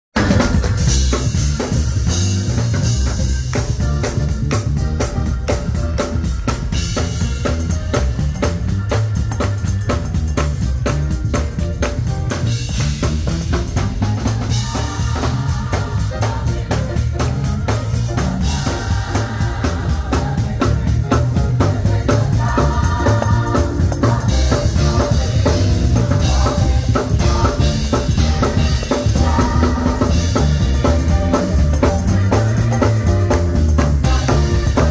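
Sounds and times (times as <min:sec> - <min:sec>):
drum kit fast beat: 0:00.1 - 0:34.9
heavy bass: 0:00.2 - 0:34.9
live band music: 0:00.2 - 0:34.9.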